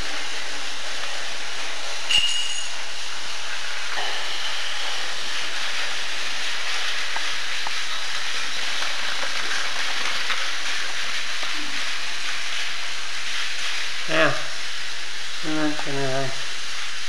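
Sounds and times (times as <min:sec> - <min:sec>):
toy trains whirring: 0:00.0 - 0:14.2.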